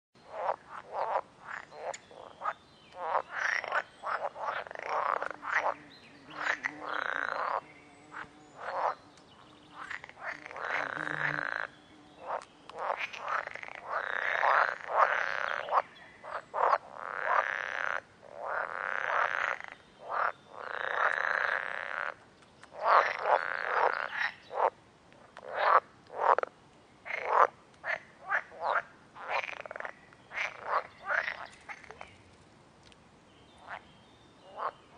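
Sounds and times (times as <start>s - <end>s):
frogs croaking in chorus: 0.2s - 32.0s, 33.6s - 33.8s, 34.4s - 34.9s.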